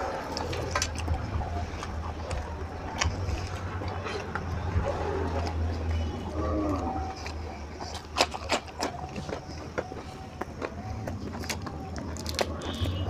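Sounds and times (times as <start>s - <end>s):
crunching bites: 0.0s - 13.0s
wet chewing and lip smacks: 0.0s - 13.0s.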